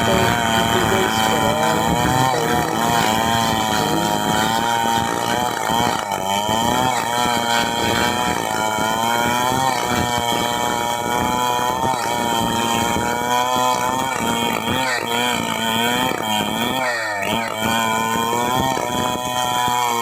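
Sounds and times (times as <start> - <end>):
power tool motor running: 0.0 - 20.0.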